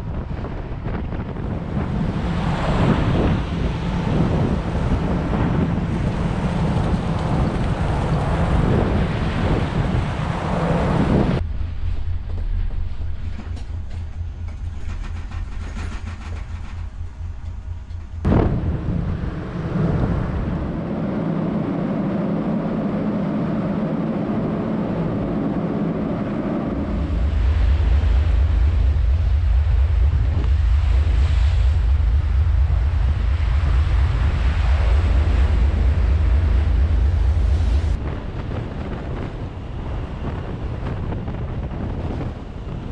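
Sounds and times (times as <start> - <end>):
water rushing along hull: 0.0 - 12.1, 18.2 - 42.9
wind on microphone: 0.0 - 42.9.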